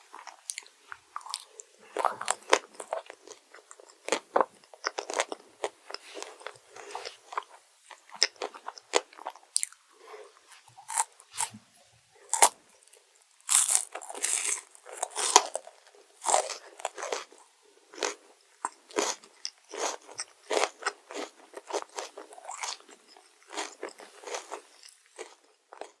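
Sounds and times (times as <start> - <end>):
crunchy chewing: 0.1 - 11.6, 12.3 - 26.0.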